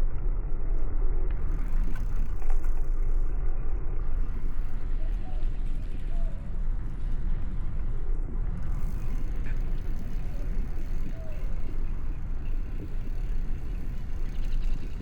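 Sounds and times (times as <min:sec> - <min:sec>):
bicycle road noise: 0:00.0 - 0:15.0.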